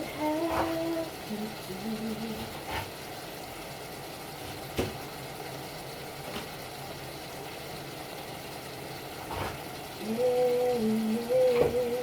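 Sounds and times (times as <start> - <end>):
kitchen hum and hiss: 0.0 - 12.0.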